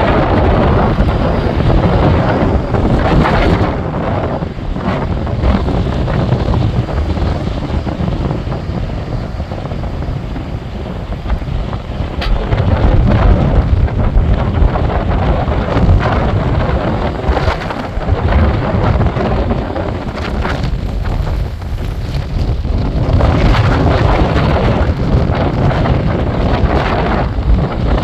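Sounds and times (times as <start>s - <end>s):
wind gusting into microphone: 0.0s - 28.0s.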